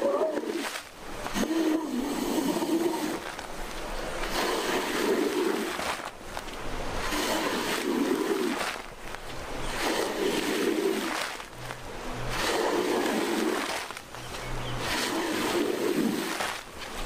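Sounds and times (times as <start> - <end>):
squeegee scraping wet rug: 0.0 - 17.0.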